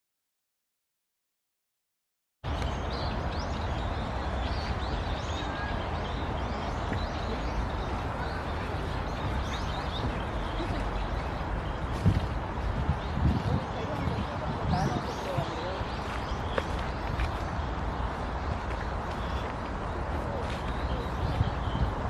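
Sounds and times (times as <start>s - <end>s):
small birds chirping: 2.5s - 22.0s.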